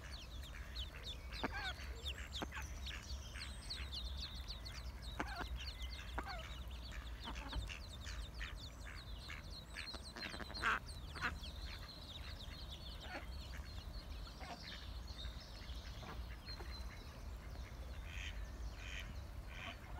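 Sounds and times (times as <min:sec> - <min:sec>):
ducklings peeping: 0:00.0 - 0:19.9.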